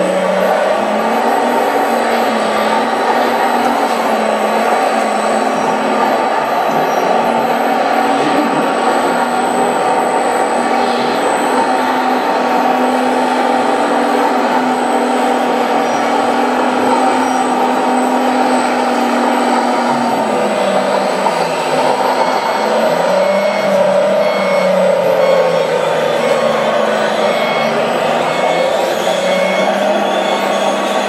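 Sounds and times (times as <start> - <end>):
toy bulldozer diesel engine drone: 0.0 - 31.0.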